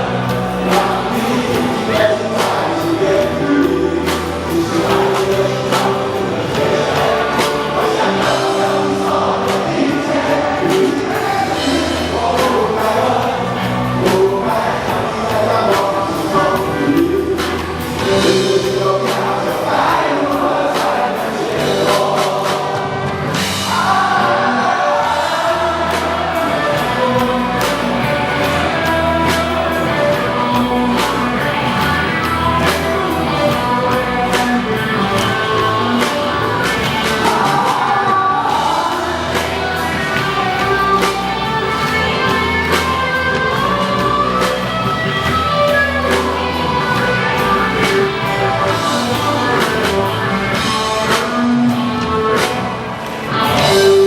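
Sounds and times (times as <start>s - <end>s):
drums steady beat: 0.0s - 54.0s
person singing: 0.0s - 54.0s
rock band playing a ballad: 0.0s - 54.0s.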